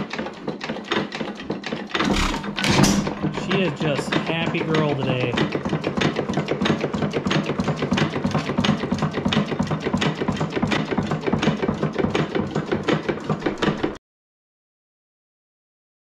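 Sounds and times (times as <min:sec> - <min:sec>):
hit-and-miss engine clattering: 0:00.0 - 0:14.0.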